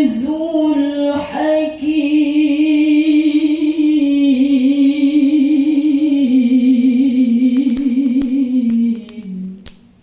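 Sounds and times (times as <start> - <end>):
woman reciting melodically: 0.0 - 9.7.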